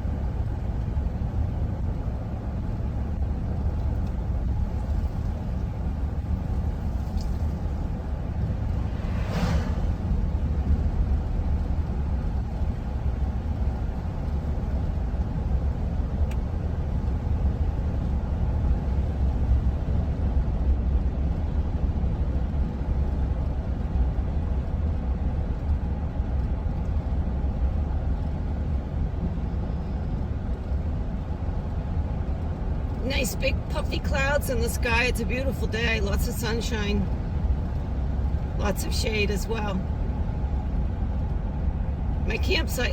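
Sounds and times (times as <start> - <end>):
road and engine rumble inside van: 0.0 - 42.9.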